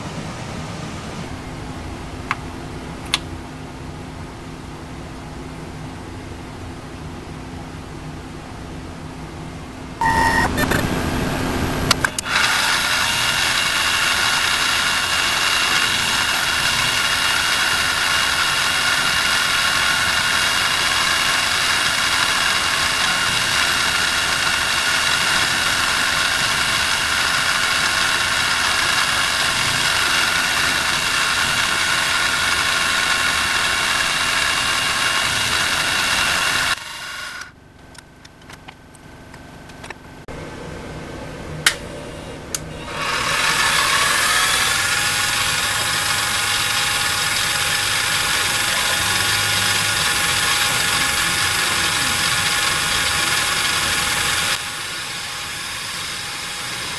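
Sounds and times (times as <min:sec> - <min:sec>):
mill spindle whining: 0:10.0 - 0:56.9.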